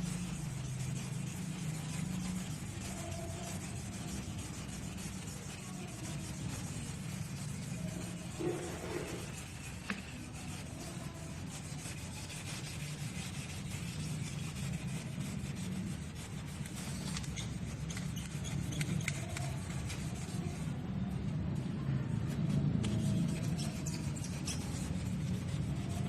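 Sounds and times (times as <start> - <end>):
sandpaper rubbing: 0.0 - 26.0.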